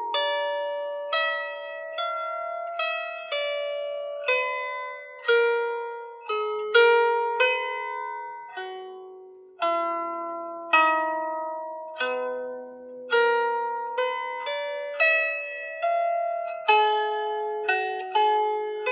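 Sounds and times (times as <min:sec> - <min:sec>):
lyre harp plucked notes: 0:00.0 - 0:18.9.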